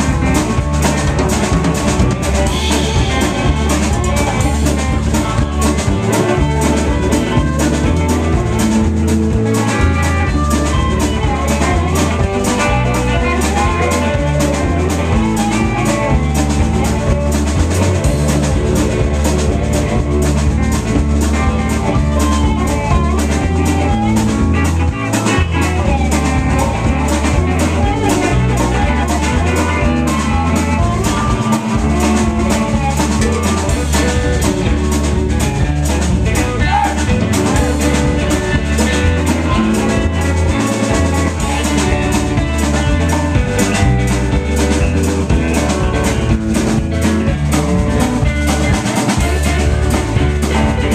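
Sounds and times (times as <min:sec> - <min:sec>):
drum kit steady beat: 0:00.0 - 0:50.9
guitar: 0:00.0 - 0:50.9
harmonica: 0:00.0 - 0:50.9.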